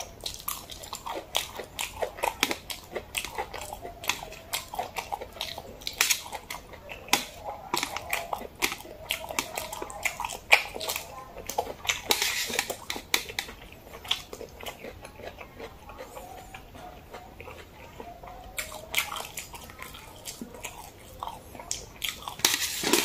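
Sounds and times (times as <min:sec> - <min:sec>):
wet chewing and lip smacking: 0:00.0 - 0:23.0.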